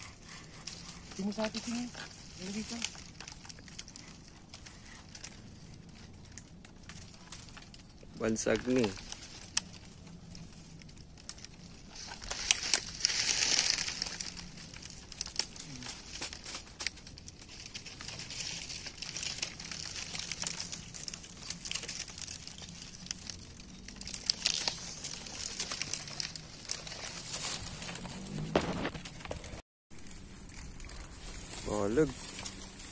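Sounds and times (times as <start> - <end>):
dry palm fronds rustling: 0.0 - 32.9.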